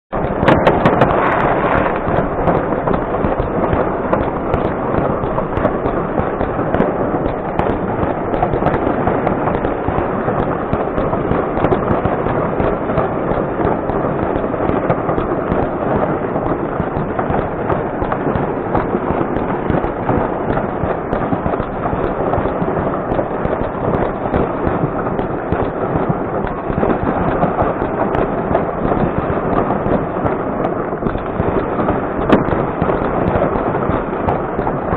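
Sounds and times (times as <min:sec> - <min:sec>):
fireworks crackling and banging: 0:00.1 - 0:34.9.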